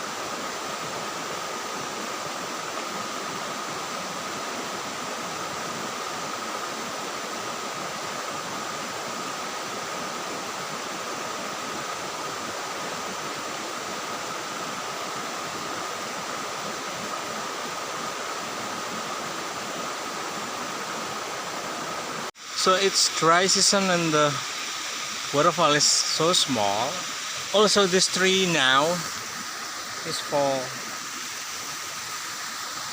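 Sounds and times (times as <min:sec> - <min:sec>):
insect drone: 0:00.0 - 0:32.9
waterfall and river rushing: 0:00.0 - 0:32.9.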